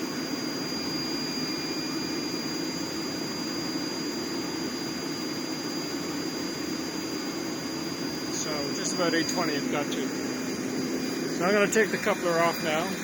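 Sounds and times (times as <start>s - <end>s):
heater burner and fan roar: 0.0s - 13.0s.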